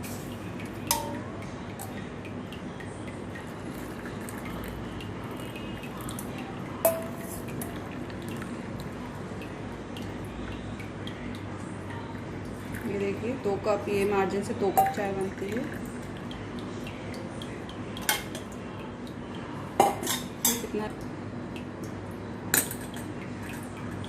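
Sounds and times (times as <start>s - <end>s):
tea pouring into cups: 0.0s - 24.0s.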